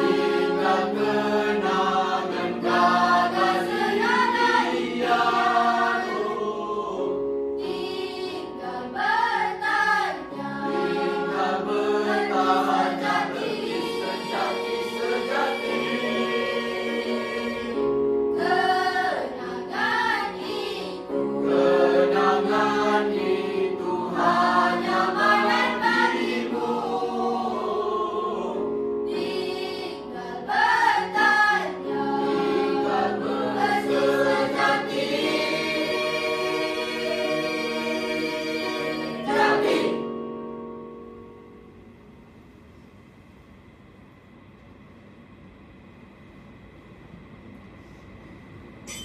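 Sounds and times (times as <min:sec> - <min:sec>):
children's choir singing in harmony: 0:00.0 - 0:41.1.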